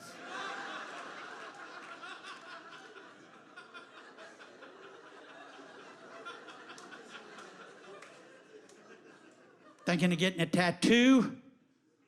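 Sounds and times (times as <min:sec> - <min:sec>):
audience laughing: 0:00.0 - 0:11.3.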